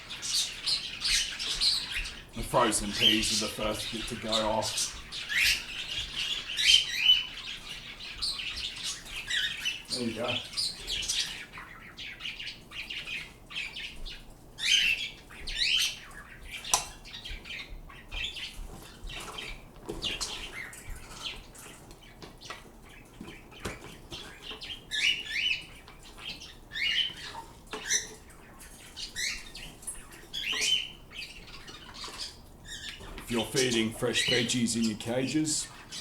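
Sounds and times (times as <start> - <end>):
birds chirping and squawking: 0.0 - 36.0.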